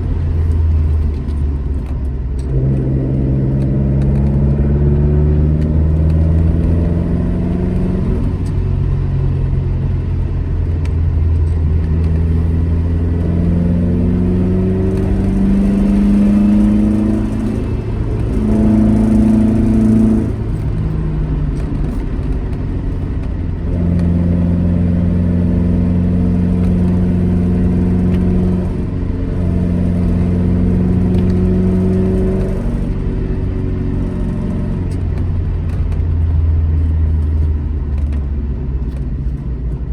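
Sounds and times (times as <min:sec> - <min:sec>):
car engine revving under load: 0:00.0 - 0:39.9
steady low rumble: 0:00.0 - 0:39.9.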